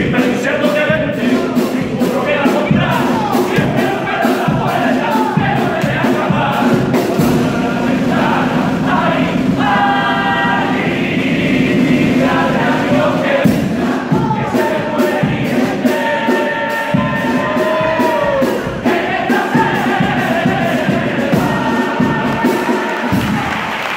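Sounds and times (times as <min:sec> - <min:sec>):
male chorus singing in unison: 0:00.0 - 0:23.7
drum strokes: 0:00.0 - 0:23.8.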